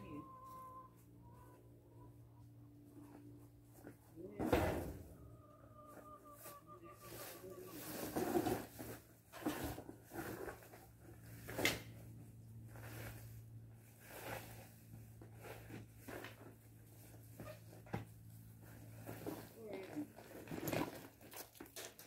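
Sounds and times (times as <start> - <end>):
low steady hum: 0.0 - 20.8.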